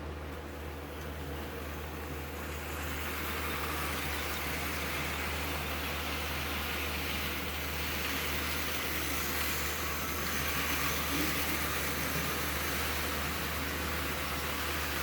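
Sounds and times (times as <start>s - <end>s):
constant low hum: 0.0s - 15.0s
model train motor whirring: 0.5s - 15.0s.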